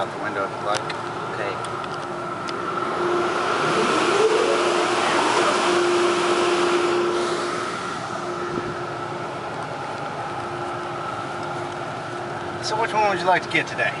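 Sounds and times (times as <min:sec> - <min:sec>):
car wash machinery hum: 0:00.0 - 0:14.0
rushing fan-like air noise: 0:00.0 - 0:14.0.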